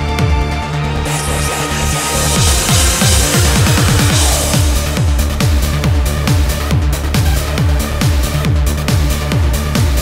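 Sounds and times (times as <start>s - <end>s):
dark electronic dance music: 0.0s - 10.0s.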